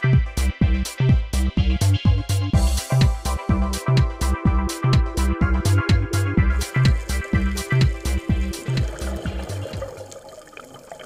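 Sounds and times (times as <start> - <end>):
electronic music with steady beat: 0.0 - 10.1.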